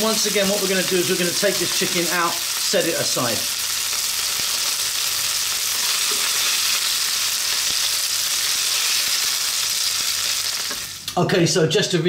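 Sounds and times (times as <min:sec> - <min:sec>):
chicken sizzling in oil: 0:00.0 - 0:11.1.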